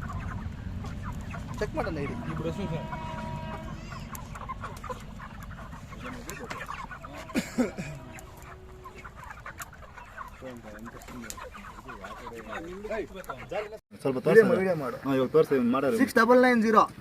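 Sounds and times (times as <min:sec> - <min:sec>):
chickens clucking and squawking: 0:00.0 - 0:15.7.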